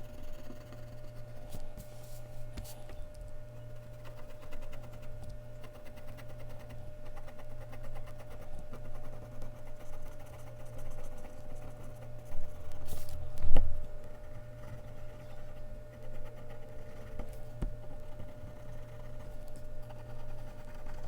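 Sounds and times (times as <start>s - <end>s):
pencil scratching on paper: 0.0s - 2.8s, 3.6s - 13.3s, 14.0s - 21.0s.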